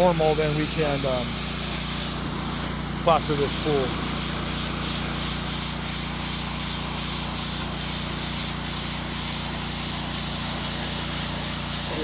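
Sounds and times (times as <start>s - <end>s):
pressure washer spraying concrete: 0.0s - 12.0s.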